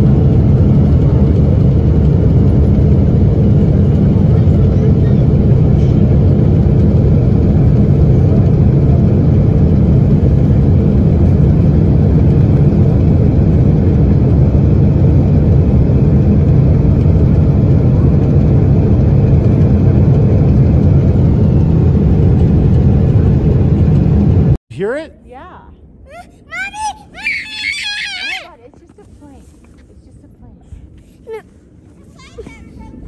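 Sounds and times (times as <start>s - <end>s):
jet engine low rumble: 0.0s - 24.6s, 25.6s - 33.0s.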